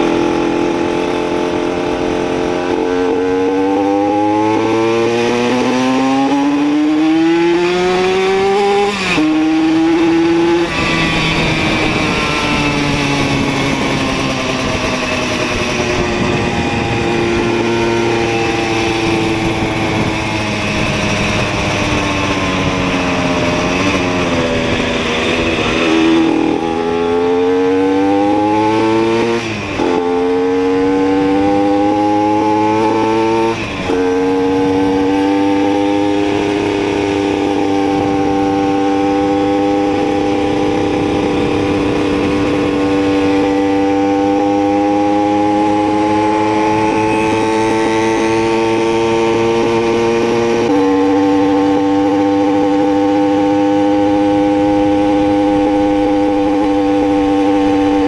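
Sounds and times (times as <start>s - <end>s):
two-stroke moped engine: 0.0s - 7.0s, 8.1s - 58.0s.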